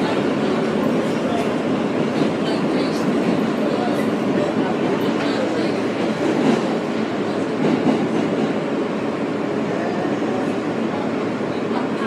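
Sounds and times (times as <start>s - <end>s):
subway wheels on rail: 0.0s - 12.0s.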